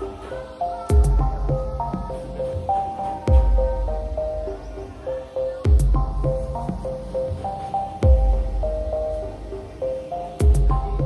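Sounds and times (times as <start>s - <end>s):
stepping synth melody: 0.0s - 11.0s.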